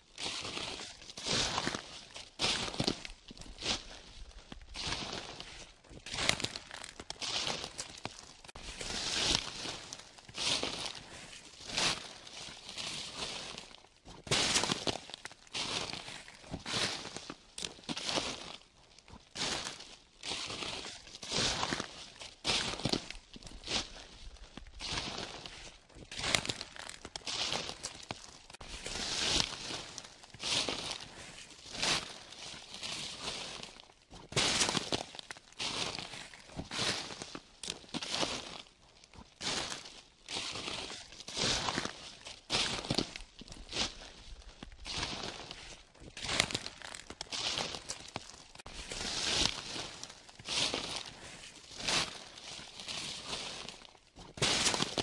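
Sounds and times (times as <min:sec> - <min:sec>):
footsteps crunching dry leaves: 0:00.0 - 0:55.0.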